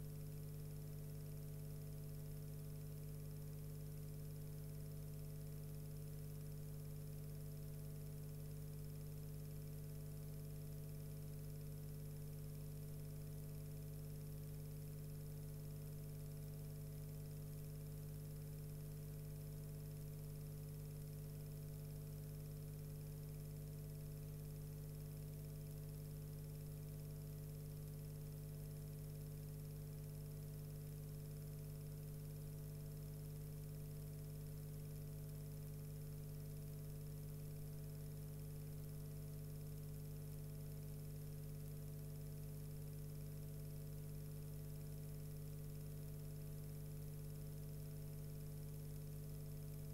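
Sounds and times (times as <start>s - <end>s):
low electrical hum with hiss: 0.0s - 49.9s.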